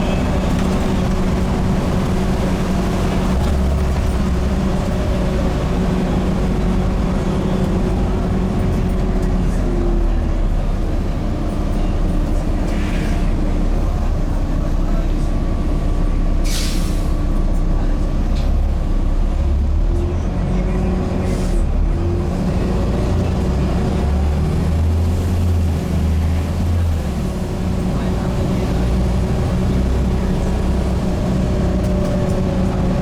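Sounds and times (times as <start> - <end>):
bus diesel engine running: 0.0 - 33.0.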